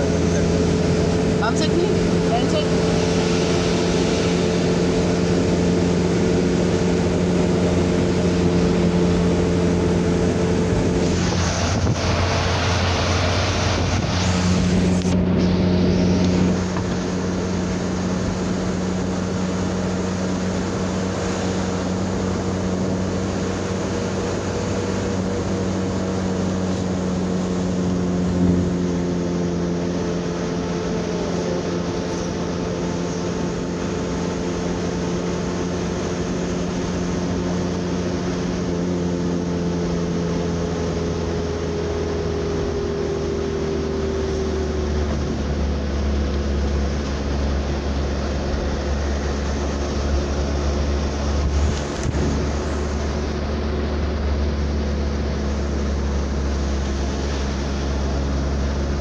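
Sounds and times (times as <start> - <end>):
road noise: 0.0 - 59.0
truck engine running: 0.0 - 59.0.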